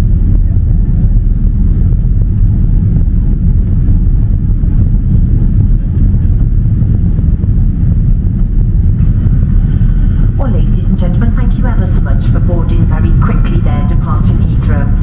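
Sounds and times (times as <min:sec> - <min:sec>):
airflow over fuselage: 0:00.0 - 0:15.0
jet engine cabin drone: 0:00.0 - 0:15.0.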